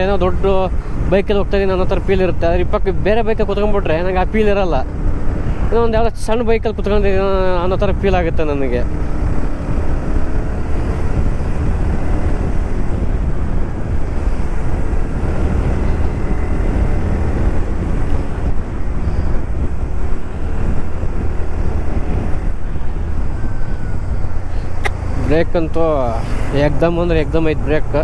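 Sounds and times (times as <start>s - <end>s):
road noise: 0.0s - 28.0s
wind buffeting microphone: 0.0s - 28.0s
motorcycle engine running: 4.8s - 28.0s.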